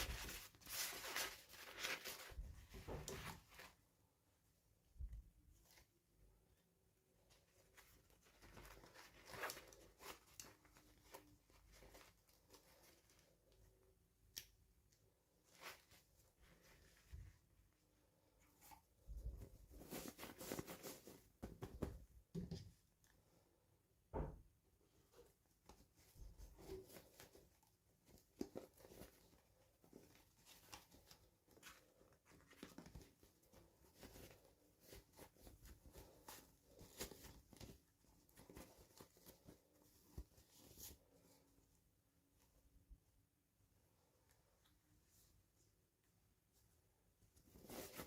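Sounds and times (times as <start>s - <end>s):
soft rustling: 0.0s - 48.0s.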